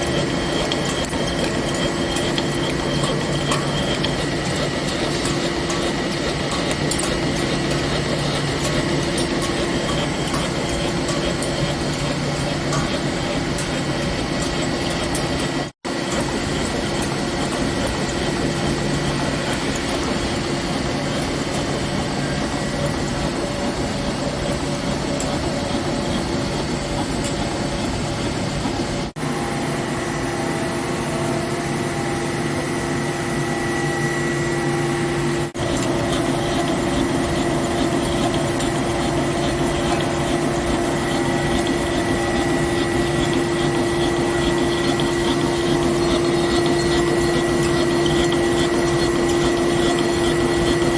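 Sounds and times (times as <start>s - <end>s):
machine tool cutting steel: 0.0s - 28.6s, 33.0s - 50.9s.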